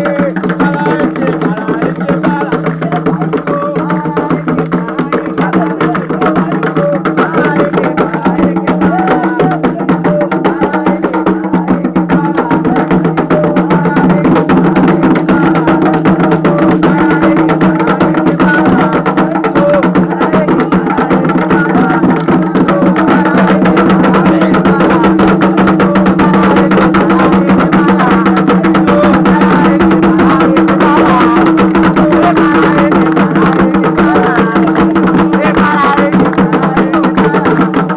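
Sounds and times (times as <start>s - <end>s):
fast hand drumming: 0.0s - 37.9s.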